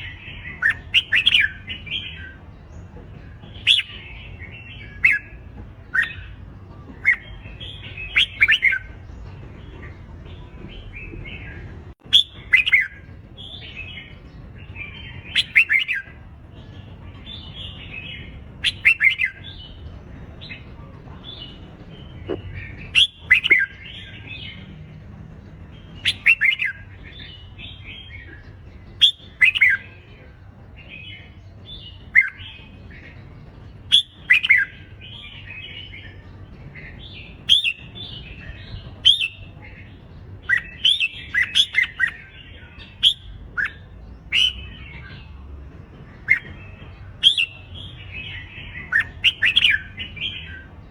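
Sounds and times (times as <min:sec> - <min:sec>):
bulbuls singing warbled phrases: 0:00.0 - 0:50.9
soft chatter of bulbuls: 0:00.0 - 0:50.9.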